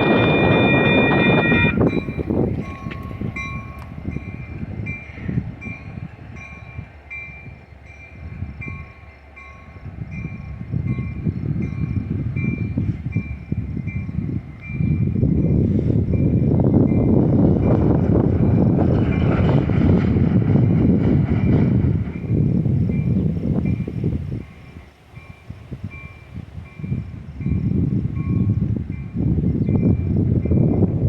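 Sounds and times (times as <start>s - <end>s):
railroad bell dinging: 0.0s - 19.6s, 20.5s - 31.0s
freight train rumbling: 0.0s - 31.0s.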